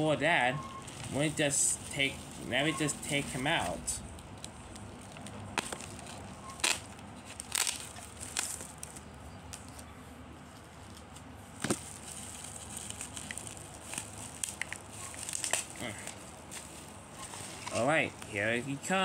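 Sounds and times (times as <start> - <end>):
plastic packaging crackling: 0.6 - 9.8, 10.6 - 18.7.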